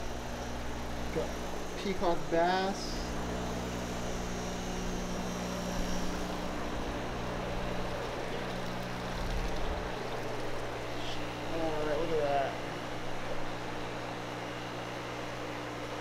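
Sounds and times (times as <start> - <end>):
aquarium pumps and filters running: 0.0 - 16.0
low electrical hum: 0.0 - 16.0.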